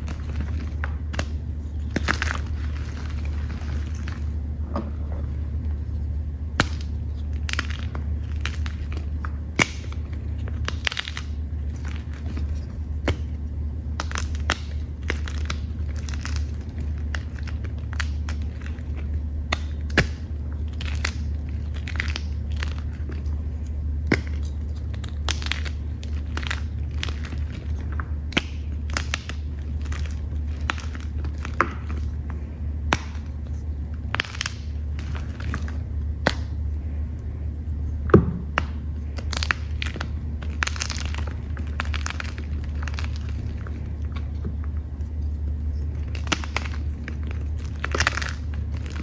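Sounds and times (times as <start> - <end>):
chalk chunks being crushed: 0.0 - 49.0
steady low hum: 0.0 - 49.0.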